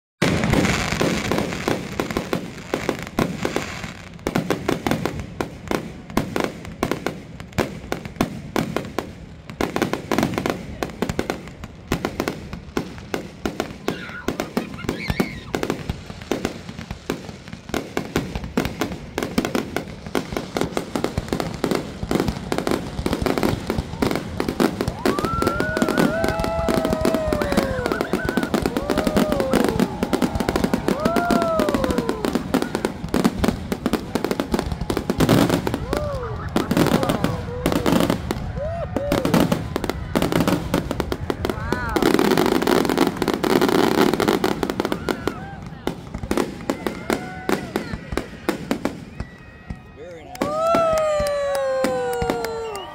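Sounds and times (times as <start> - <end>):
fireworks bangs and crackling: 0.2 - 52.9.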